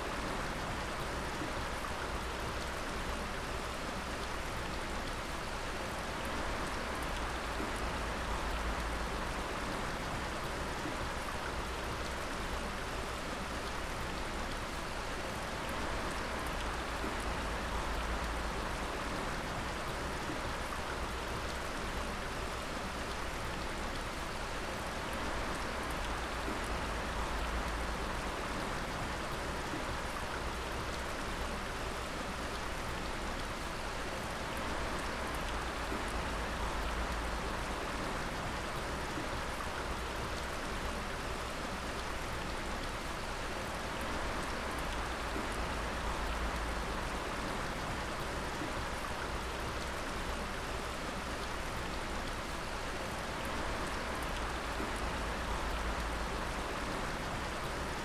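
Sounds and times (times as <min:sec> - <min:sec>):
constant wash of water: 0:00.0 - 0:58.0.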